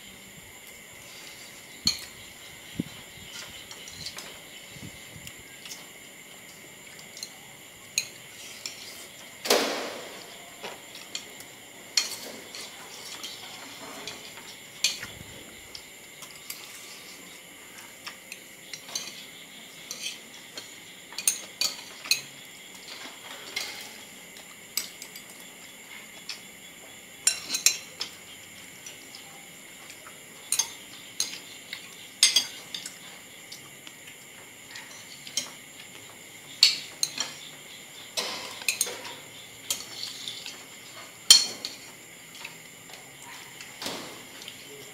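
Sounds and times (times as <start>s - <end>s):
utensils clinking on plates: 1.0s - 4.6s, 6.8s - 9.2s, 10.0s - 26.4s, 27.2s - 29.2s, 29.8s - 33.7s, 34.6s - 44.9s.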